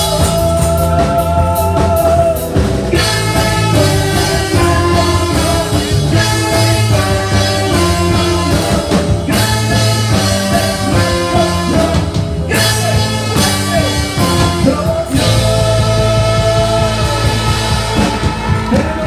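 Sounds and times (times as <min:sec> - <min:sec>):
bass line: 0:00.0 - 0:19.0
guitar: 0:00.0 - 0:19.0.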